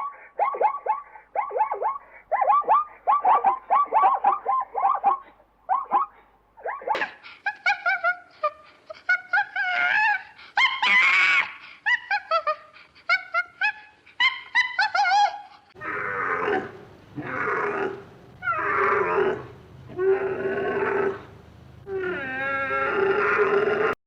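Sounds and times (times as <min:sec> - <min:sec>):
high pitch-bending animal yelps: 0:00.0 - 0:08.5, 0:09.1 - 0:21.3.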